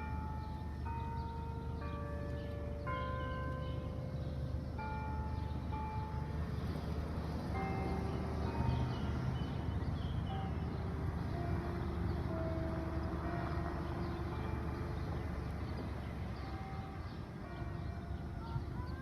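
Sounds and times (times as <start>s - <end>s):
church bells chiming a tune: 0.0s - 19.0s.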